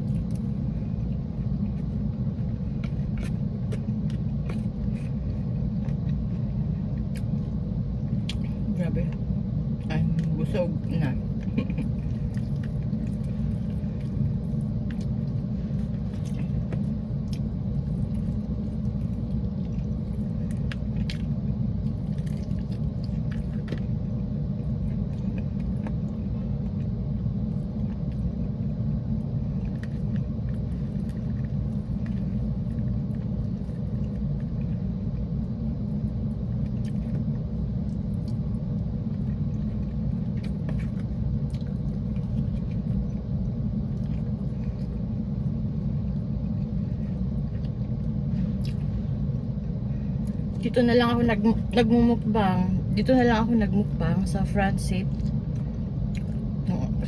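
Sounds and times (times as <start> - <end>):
car engine rumble inside cabin: 0.0 - 57.0.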